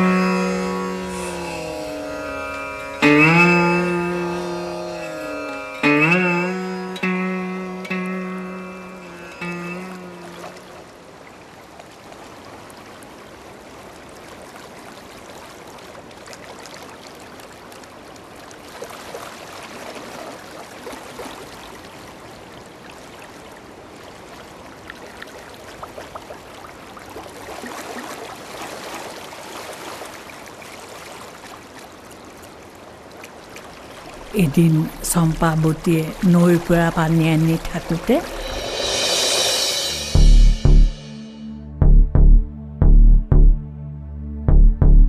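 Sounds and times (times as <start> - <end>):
river water babbling: 0.0 - 41.4.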